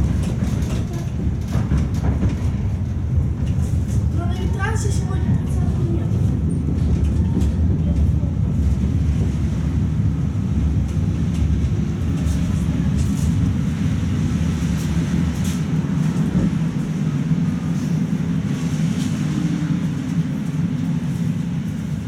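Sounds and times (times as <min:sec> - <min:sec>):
tram wheels rumbling: 0:00.0 - 0:22.0.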